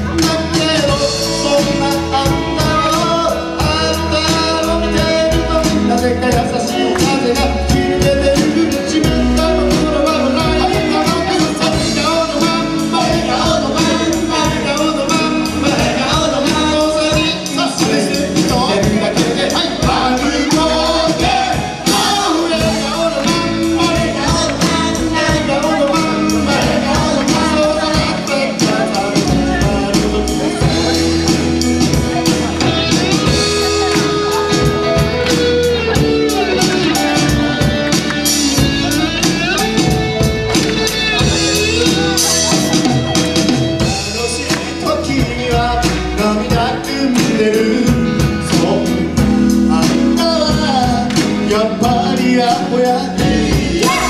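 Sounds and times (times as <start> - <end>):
bass guitar: 0.0 - 54.0
drum kit: 0.0 - 54.0
electric guitars: 0.0 - 54.0
keyboard: 0.0 - 54.0
person singing: 0.0 - 54.0.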